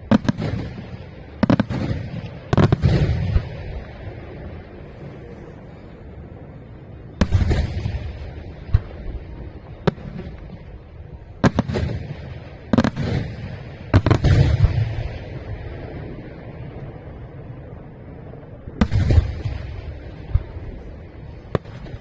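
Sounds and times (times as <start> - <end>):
fireworks bangs: 0.0 - 5.6, 7.2 - 17.3, 18.8 - 22.0
rolling echo rumble: 0.0 - 22.0.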